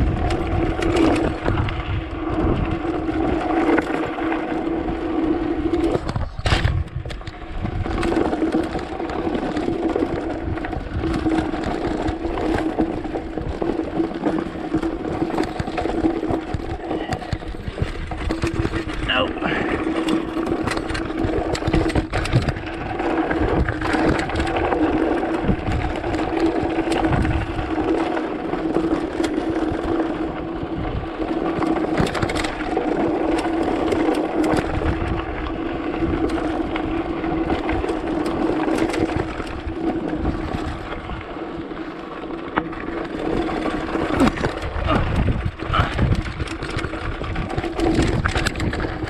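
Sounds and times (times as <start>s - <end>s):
bike rattling and knocking: 0.0s - 49.0s
mountain bike buzz on dirt trail: 0.0s - 49.0s.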